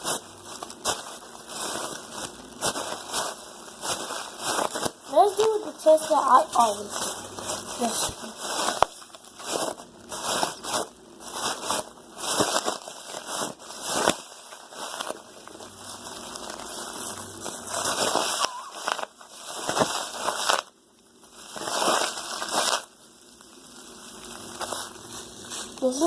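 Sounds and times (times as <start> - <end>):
plastic bag crinkling when squeezed: 0.0 - 26.0.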